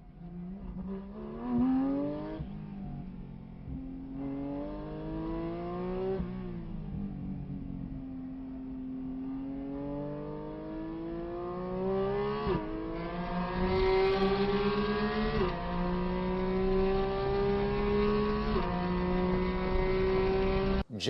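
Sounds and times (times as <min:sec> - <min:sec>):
car engine accelerating hard: 0:00.2 - 0:20.8.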